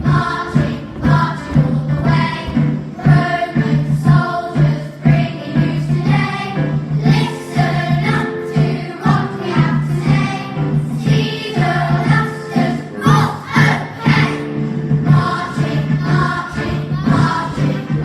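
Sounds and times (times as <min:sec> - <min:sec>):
children's choir singing: 0:00.0 - 0:18.0.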